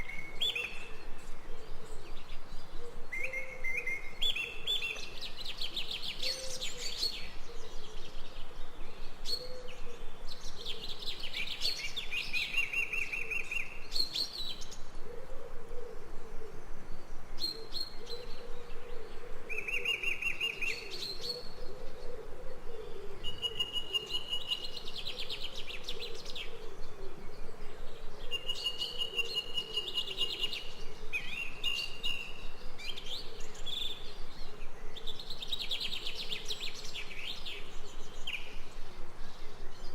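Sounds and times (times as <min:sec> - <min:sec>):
birds chirping and trilling: 0:00.0 - 0:15.0, 0:16.1 - 0:39.9
faint low wavering bird call: 0:00.0 - 0:39.9.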